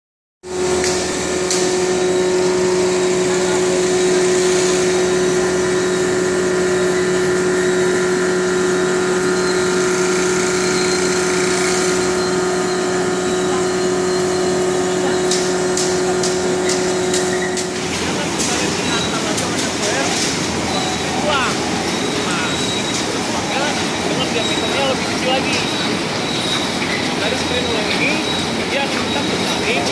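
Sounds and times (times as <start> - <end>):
machinery motor hum: 0.4 - 29.9.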